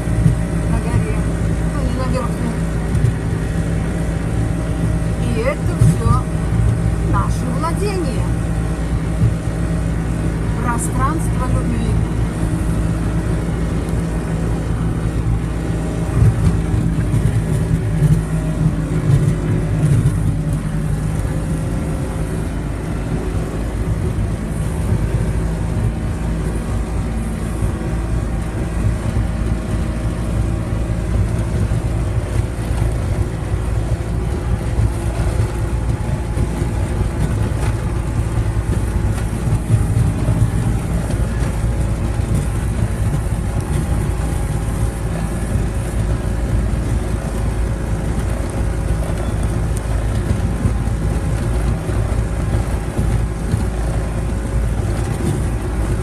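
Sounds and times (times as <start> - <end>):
road rumble: 0.0 - 56.0
vehicle engine running: 0.0 - 56.0.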